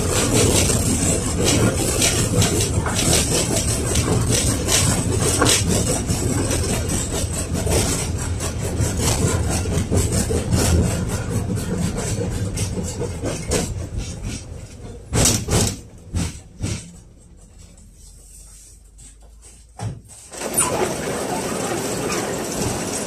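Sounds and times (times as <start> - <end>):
tram rattling on rails: 0.0 - 17.9, 20.4 - 23.0.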